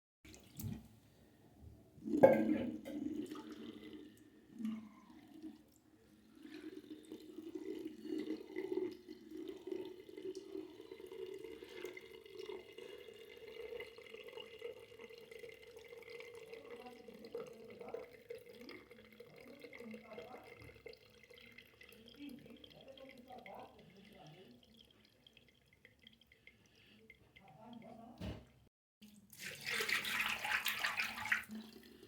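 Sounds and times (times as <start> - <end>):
water trickling: 2.0 - 32.0.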